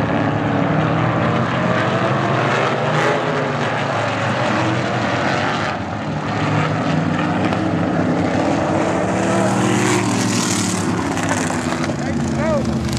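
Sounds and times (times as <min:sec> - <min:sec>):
race car engines droning: 0:00.0 - 0:12.9.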